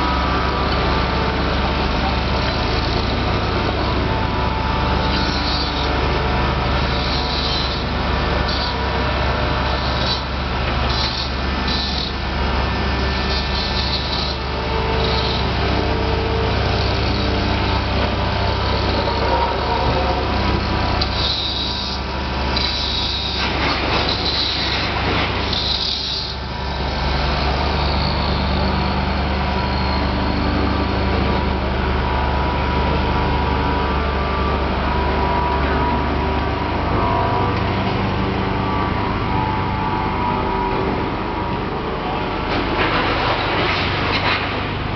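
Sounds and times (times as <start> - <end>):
machine engine droning: 0.0 - 44.9.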